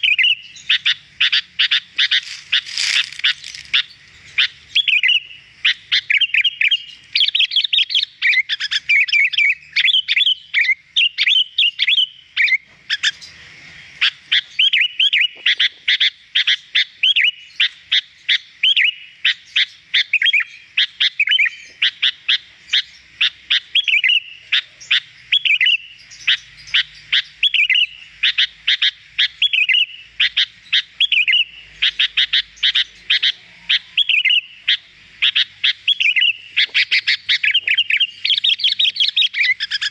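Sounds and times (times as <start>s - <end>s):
bird chirping and whistling: 0.0s - 13.3s, 14.3s - 22.9s, 23.5s - 39.9s.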